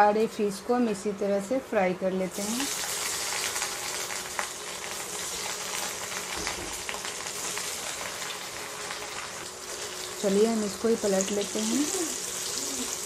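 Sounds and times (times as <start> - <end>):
fish frying in hot oil: 2.3 - 13.0.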